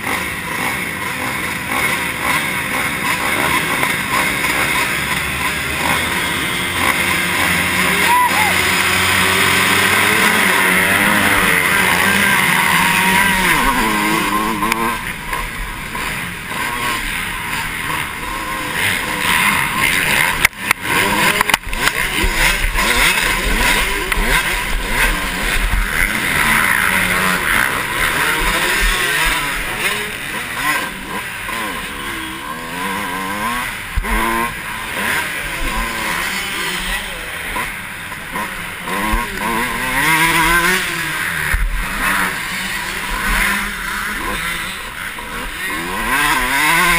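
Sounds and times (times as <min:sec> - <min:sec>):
dirt bike engine changing pitch: 0:00.0 - 0:46.9
motocross engines revving: 0:00.0 - 0:46.9.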